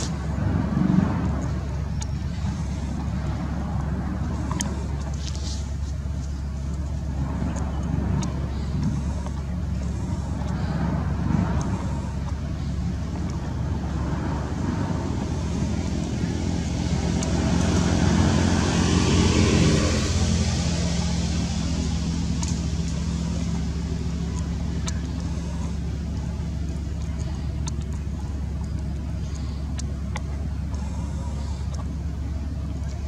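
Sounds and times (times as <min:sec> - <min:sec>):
road noise of passing vehicle: 0:00.0 - 0:33.0
vehicle engine humming: 0:00.0 - 0:33.0.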